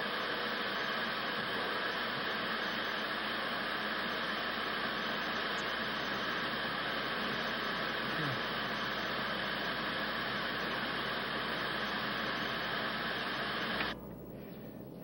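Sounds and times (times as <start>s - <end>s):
television static hiss: 0.0s - 14.1s.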